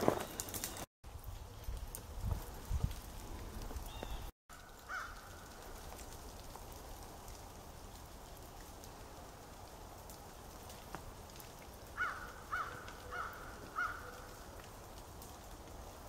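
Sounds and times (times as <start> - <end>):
dripping and falling ice ticks: 1.6 - 16.0.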